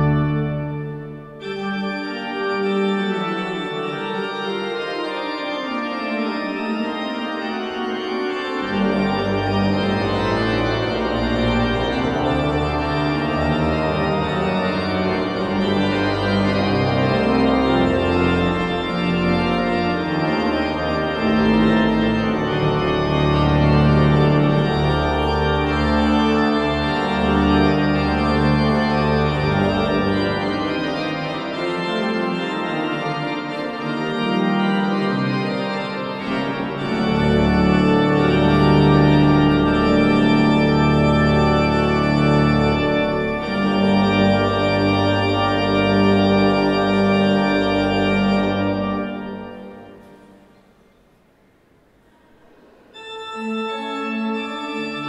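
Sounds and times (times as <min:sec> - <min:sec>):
organ pedal bass notes: 0:00.0 - 0:50.7, 0:52.9 - 0:55.0
pipe organ playing: 0:00.0 - 0:55.0.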